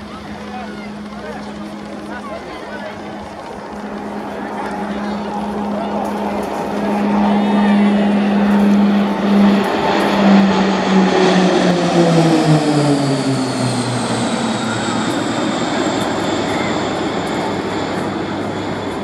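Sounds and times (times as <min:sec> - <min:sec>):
propeller aircraft passing low: 0:00.0 - 0:19.0.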